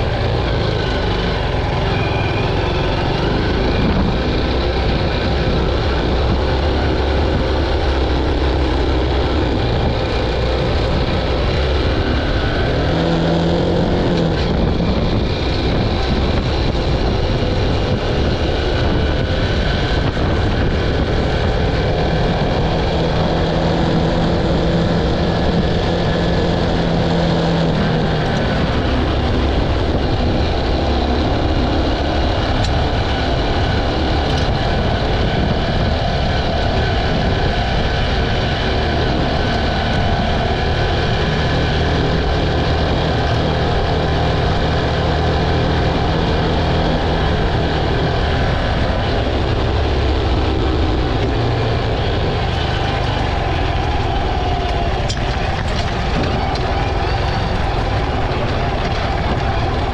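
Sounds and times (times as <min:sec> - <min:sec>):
motorcycle engine running: 0:00.0 - 0:59.9
riding noise rush: 0:00.0 - 0:59.9.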